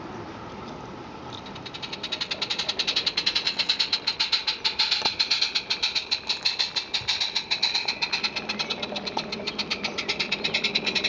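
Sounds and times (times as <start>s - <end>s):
steam locomotive chuffing: 1.5s - 11.0s.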